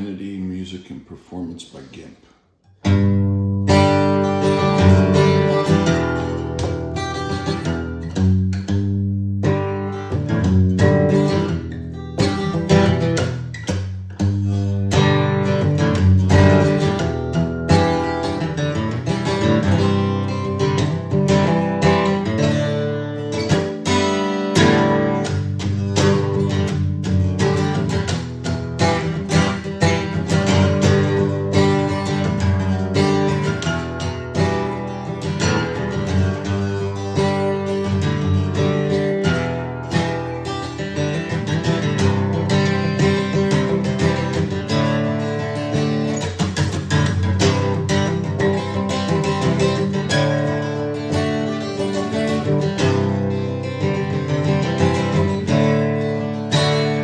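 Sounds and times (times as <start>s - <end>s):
guitar strummed and picked: 2.6s - 57.0s.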